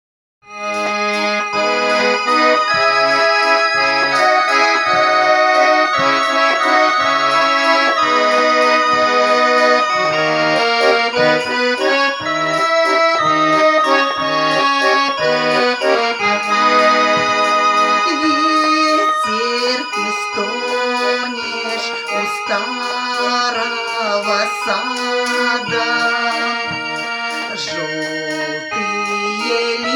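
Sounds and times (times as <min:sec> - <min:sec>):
button accordion playing: 0:00.5 - 0:29.9.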